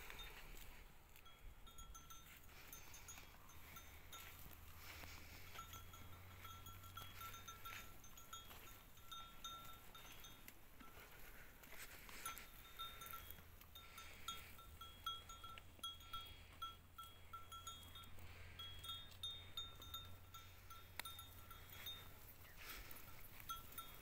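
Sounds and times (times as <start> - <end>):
cattle bells clinking: 0.0 - 24.0.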